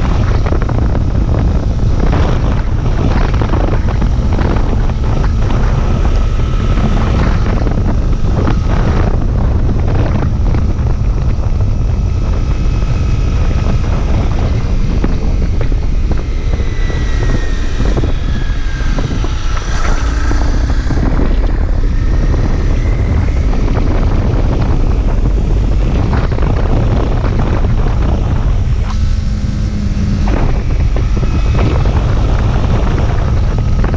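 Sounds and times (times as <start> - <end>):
high whine sliding up and down: 0.0 - 33.9
motorcycle engine running: 0.0 - 33.9
wind buffeting microphone: 0.0 - 33.9.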